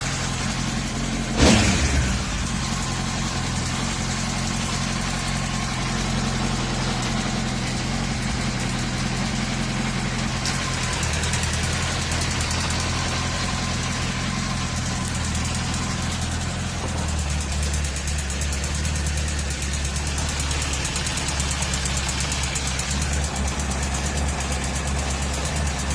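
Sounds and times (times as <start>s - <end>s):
motorcycle engine running at low revs: 0.0s - 25.9s.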